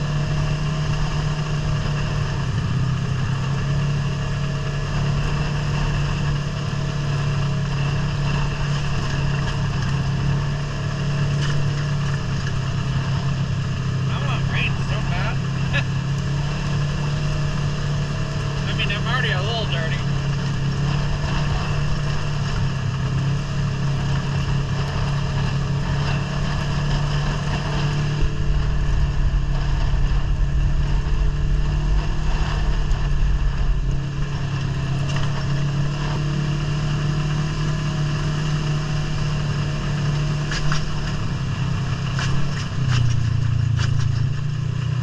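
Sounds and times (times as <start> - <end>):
atv engine running: 0.0 - 45.0
heavy low rumble: 0.0 - 45.0
rush of riding over rough ground: 0.0 - 45.0.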